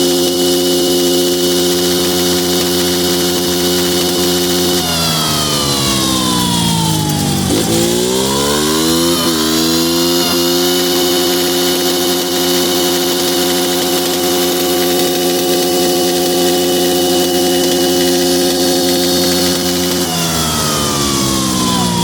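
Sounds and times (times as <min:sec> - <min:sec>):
single-cylinder engine revving: 0:00.0 - 0:22.0.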